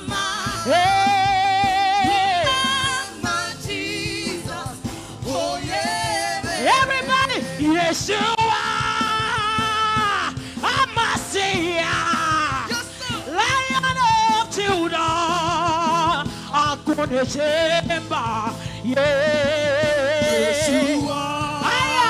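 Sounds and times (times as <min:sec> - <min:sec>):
band accompaniment: 0:00.0 - 0:22.0
woman singing with vibrato: 0:00.0 - 0:22.0.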